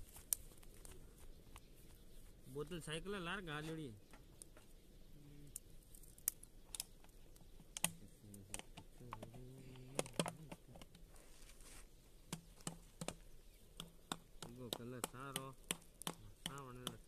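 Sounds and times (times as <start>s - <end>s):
twigs crackling in wood fire: 0.0s - 17.0s.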